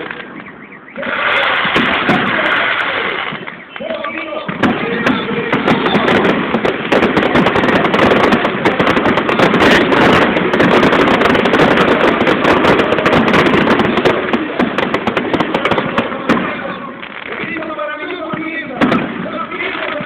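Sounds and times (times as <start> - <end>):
fireworks crackling and popping: 0.0 - 20.0.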